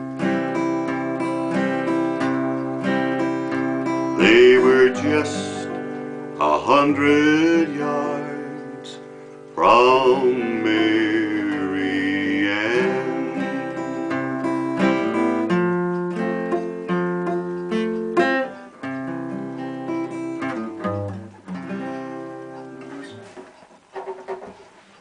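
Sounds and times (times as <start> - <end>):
acoustic guitar picked chords: 0.0 - 24.9.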